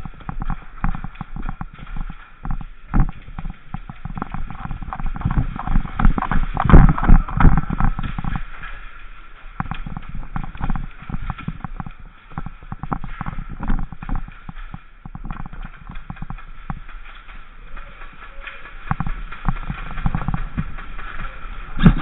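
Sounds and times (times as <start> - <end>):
sharp knocks and clicks: 0.0 - 8.9, 9.5 - 22.0
low steady hum: 0.0 - 22.0.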